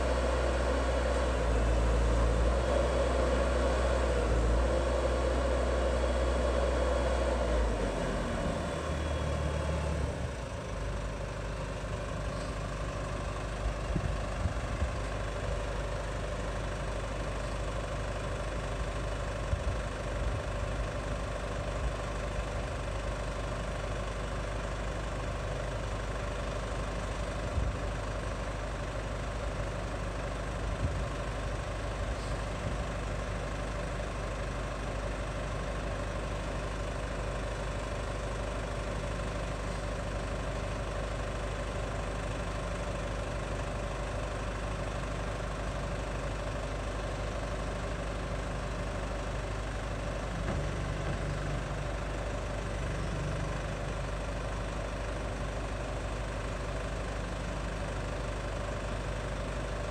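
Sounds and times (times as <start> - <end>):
engine running then idling: 0.0 - 59.9.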